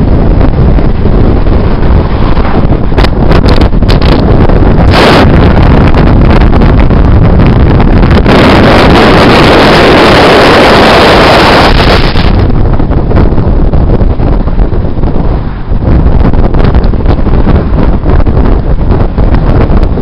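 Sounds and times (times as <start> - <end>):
car road noise: 0.0 - 20.0
wind rushing over microphone: 0.0 - 20.0.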